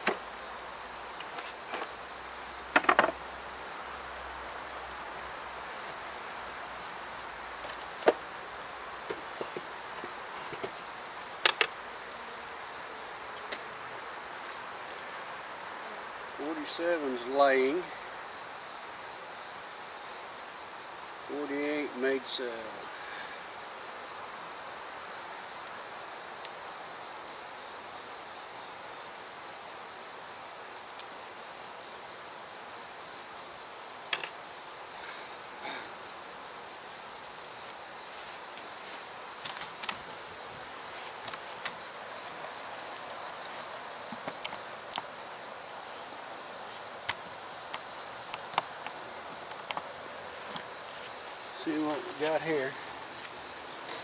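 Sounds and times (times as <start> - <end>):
insects singing: 0.0 - 54.0.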